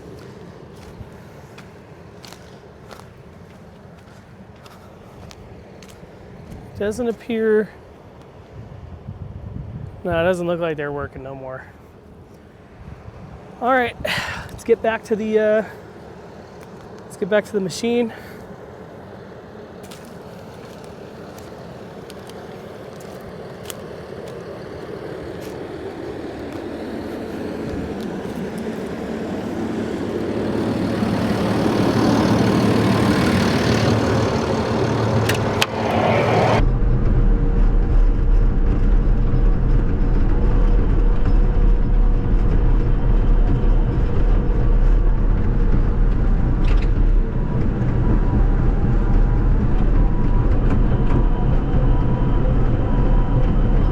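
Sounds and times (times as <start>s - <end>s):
bulldozer diesel engine running: 0.0s - 9.2s, 10.0s - 53.9s.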